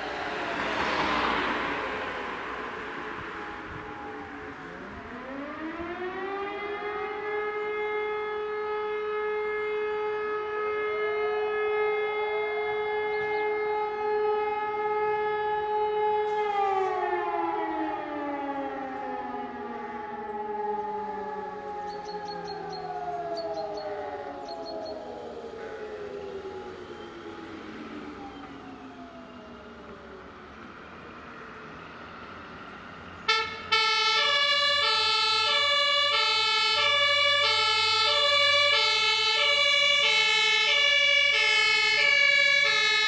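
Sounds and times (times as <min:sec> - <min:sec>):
distant sirens rising and falling: 0:00.0 - 0:43.0.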